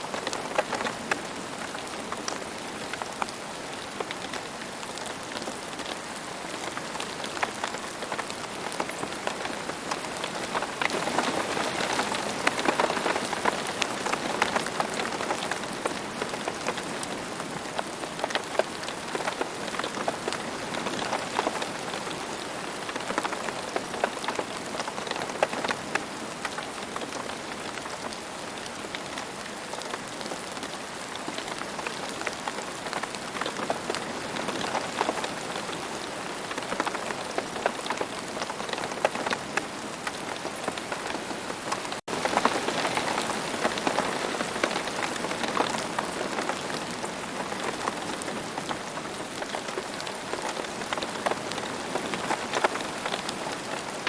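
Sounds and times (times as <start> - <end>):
rain on hard surface: 0.0 - 54.0.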